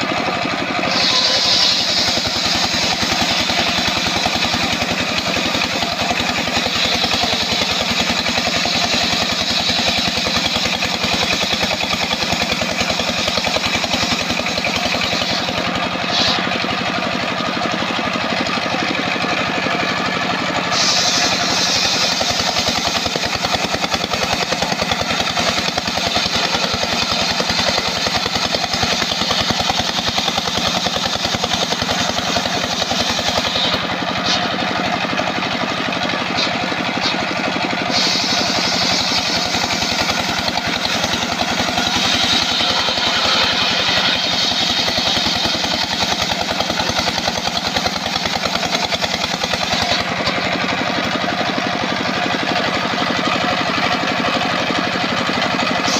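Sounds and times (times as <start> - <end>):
saw blade hissing through wood: 0.0 - 51.2, 53.3 - 55.9
engine running steadily: 0.0 - 55.9.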